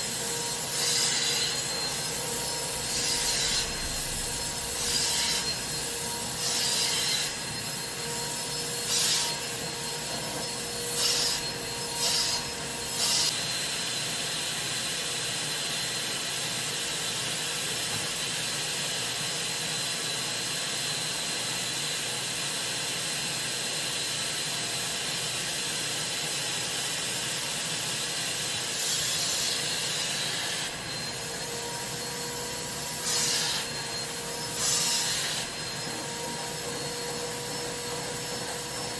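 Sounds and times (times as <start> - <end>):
cleaning machine whine: 0.0 - 38.9.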